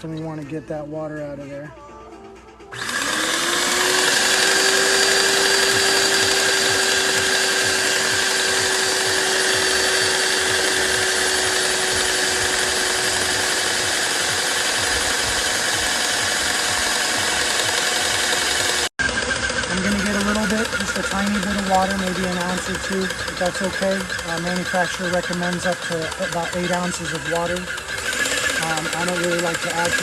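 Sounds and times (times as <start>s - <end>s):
paint sprayer pump motor whine: 2.6s - 30.0s.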